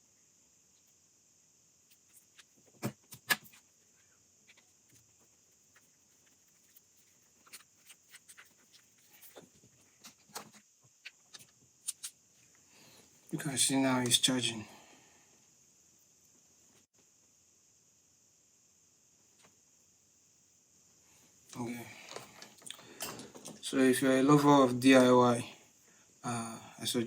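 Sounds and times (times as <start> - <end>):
faint steady hiss: 0.0 - 27.0.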